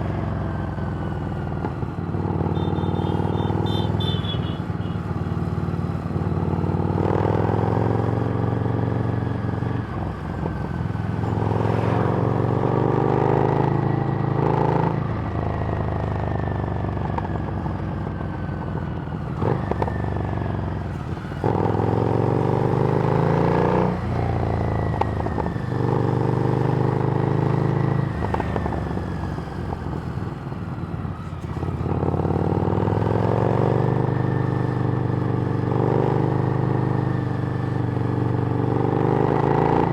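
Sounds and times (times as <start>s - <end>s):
motorcycle engine revving: 0.0s - 15.1s, 19.3s - 39.9s.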